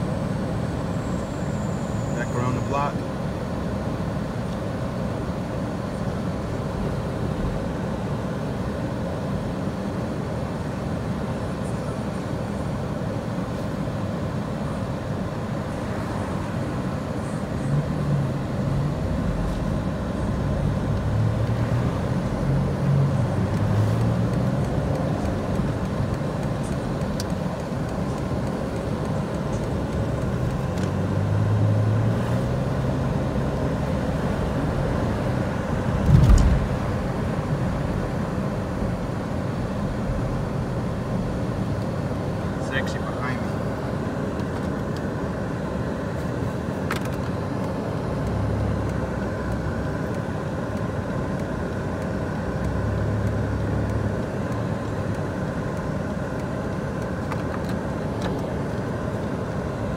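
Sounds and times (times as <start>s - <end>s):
car engine from inside cabin: 0.0s - 59.9s
road noise: 0.0s - 59.9s.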